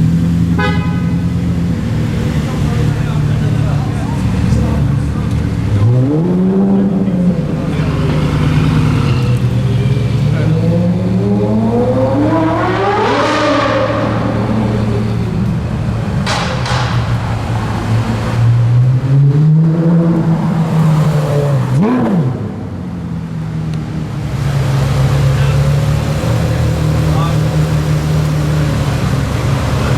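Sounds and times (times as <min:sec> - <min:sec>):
sports car engine revving: 0:00.0 - 0:29.9.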